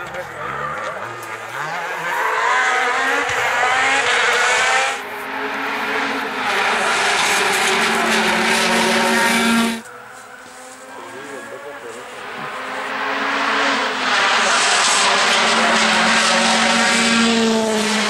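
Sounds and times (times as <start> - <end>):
rally car engines revving past: 0.0 - 18.0.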